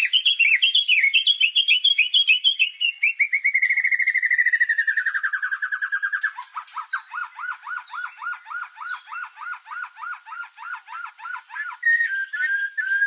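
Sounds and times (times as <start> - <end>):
bird singing whistled trills: 0.0 - 13.0.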